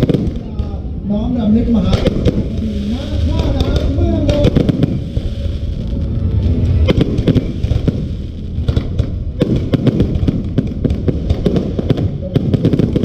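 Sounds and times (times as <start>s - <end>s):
fireworks bangs and crackling: 0.0s - 13.0s
low rumble of booms: 0.0s - 13.0s.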